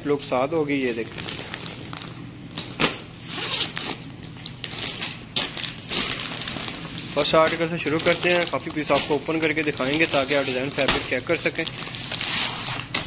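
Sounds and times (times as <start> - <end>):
low steady hum: 0.0 - 13.0
plastic packaging crinkling: 0.8 - 13.0.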